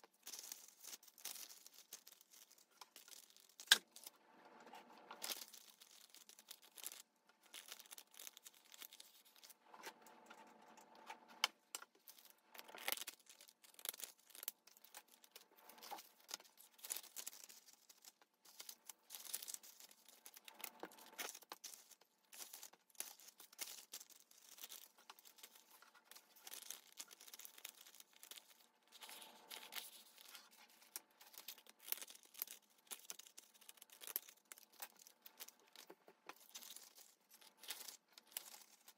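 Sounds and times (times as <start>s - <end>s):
paper packaging crinkling: 0.0s - 38.9s.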